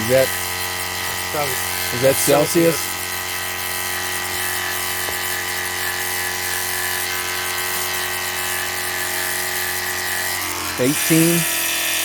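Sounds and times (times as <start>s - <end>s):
water pump humming: 0.0s - 12.0s.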